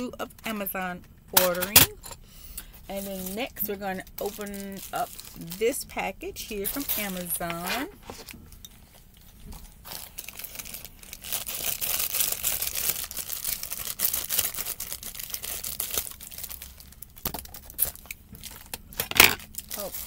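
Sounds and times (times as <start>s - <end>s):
plastic mailer bag crackling: 2.8s - 8.4s, 9.0s - 20.0s.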